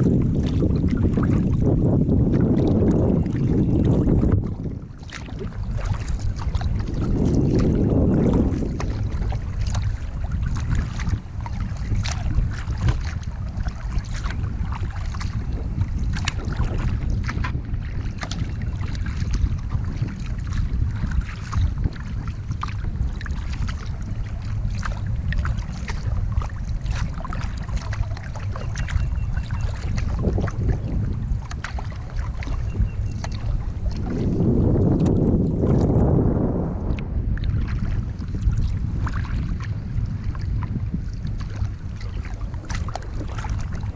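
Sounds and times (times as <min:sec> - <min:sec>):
water splashes and drips: 0:00.0 - 0:01.6, 0:02.3 - 0:36.0, 0:36.9 - 0:39.7, 0:40.3 - 0:43.9
wind rumbling on microphone: 0:00.0 - 0:43.9.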